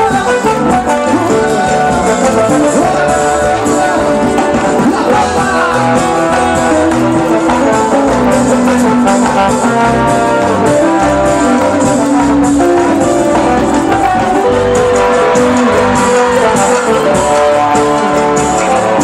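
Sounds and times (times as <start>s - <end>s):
brass: 0.0s - 19.0s
guitar: 0.0s - 19.0s
steady beat: 0.1s - 19.0s.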